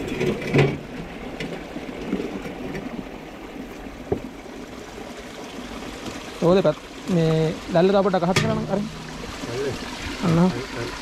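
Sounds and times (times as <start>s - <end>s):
water trickling in ditch: 0.0s - 11.0s.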